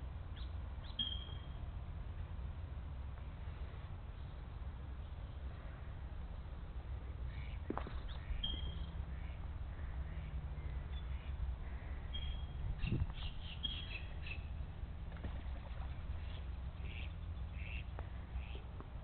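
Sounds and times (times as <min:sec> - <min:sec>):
low steady rumble: 0:00.0 - 0:19.0
birds chirping: 0:00.3 - 0:01.6, 0:04.0 - 0:18.8.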